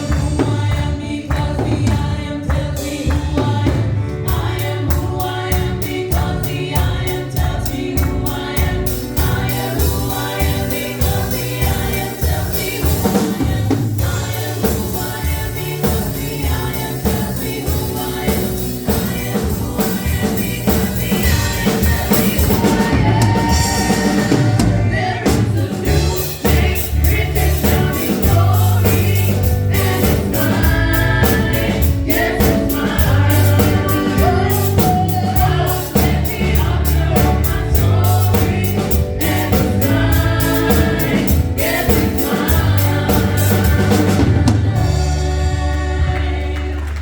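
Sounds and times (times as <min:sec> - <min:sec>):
bass line: 0:00.0 - 0:47.0
drum kit beat: 0:00.0 - 0:47.0
group singing gospel song: 0:00.0 - 0:47.0.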